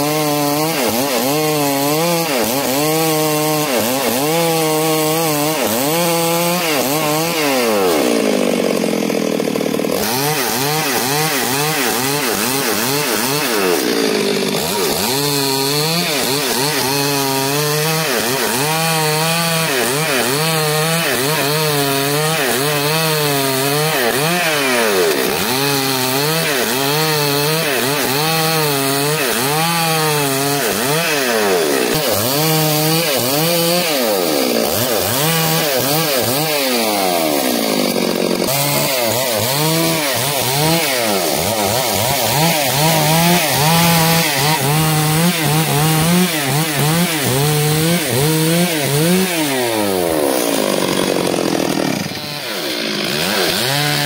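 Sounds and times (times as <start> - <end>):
chainsaw ripping a log: 0.0 - 54.0.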